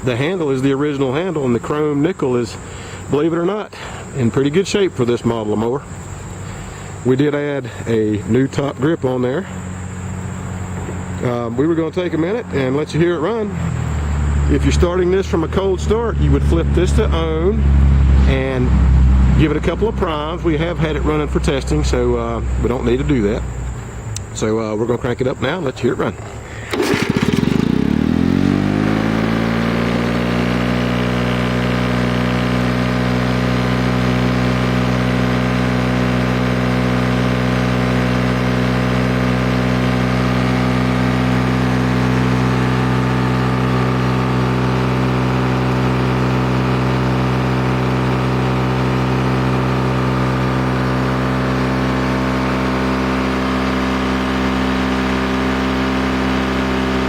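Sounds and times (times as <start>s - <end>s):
two-stroke mower engine running: 0.0s - 23.3s, 26.0s - 57.0s.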